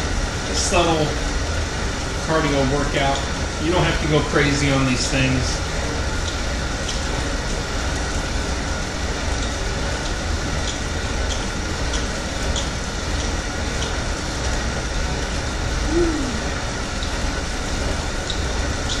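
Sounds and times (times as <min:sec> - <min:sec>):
fan wheel whirring: 0:00.0 - 0:19.0.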